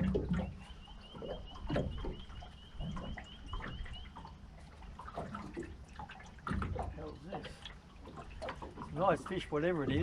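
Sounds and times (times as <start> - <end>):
water splashing: 0.0 - 10.0.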